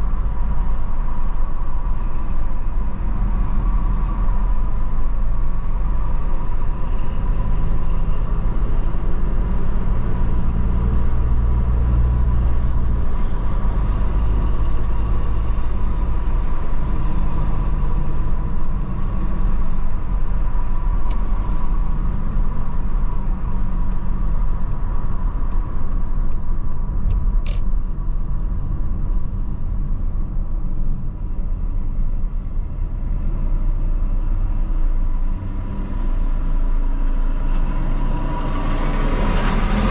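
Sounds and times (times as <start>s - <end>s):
car engine and tyre rumble: 0.0s - 39.9s
truck engine drone: 0.0s - 39.9s.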